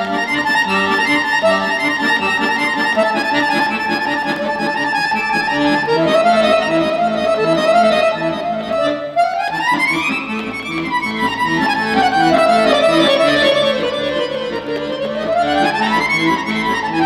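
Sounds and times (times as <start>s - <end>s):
solo accordion playing: 0.0s - 17.0s.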